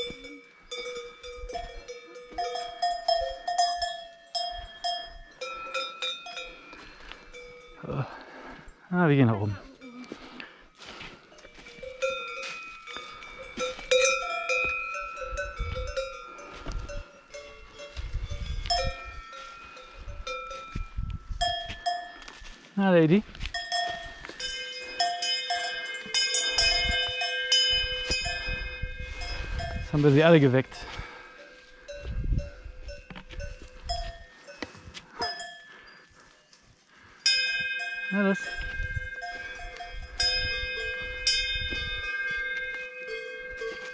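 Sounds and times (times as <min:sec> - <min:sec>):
cowbells clanking: 0:00.0 - 0:08.2, 0:09.1 - 0:43.9.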